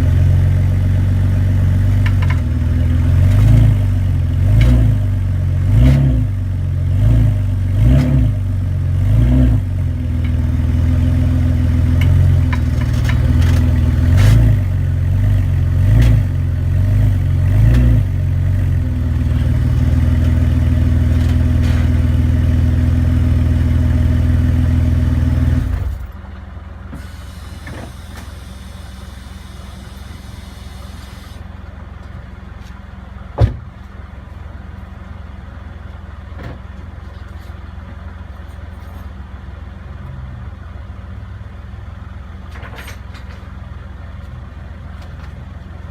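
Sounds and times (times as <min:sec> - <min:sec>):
car engine running under load: 0:00.0 - 0:45.9
engine idle hum: 0:00.0 - 0:45.9.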